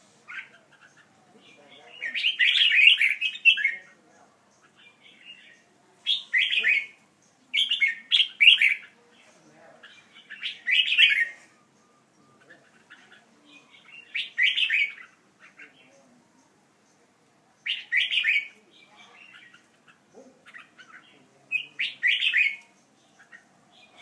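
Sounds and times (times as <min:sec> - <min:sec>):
pet birds chirping: 0:00.1 - 0:24.0.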